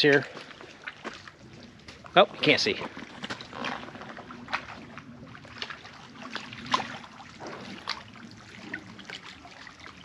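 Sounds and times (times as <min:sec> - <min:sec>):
lake water lapping: 0:00.0 - 0:10.0.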